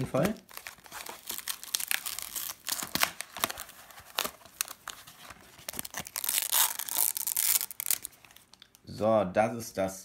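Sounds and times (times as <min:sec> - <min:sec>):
plastic wrapping crinkling and tearing: 0:00.0 - 0:08.8.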